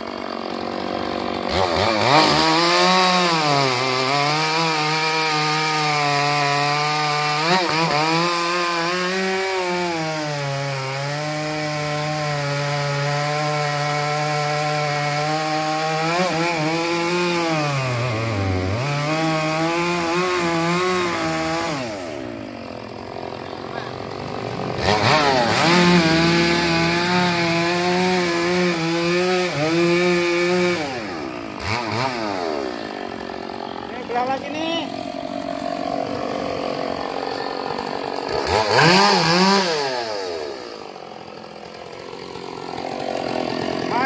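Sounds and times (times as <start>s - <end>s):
chainsaw cutting log: 0.0s - 44.0s.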